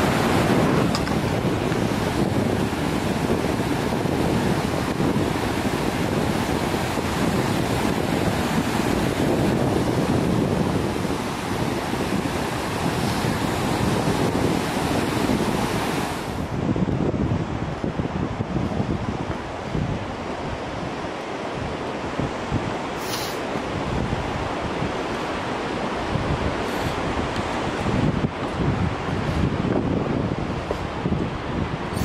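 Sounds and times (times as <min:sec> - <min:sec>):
river rushing over rocks: 0:00.0 - 0:32.0
wind on microphone: 0:00.0 - 0:32.0.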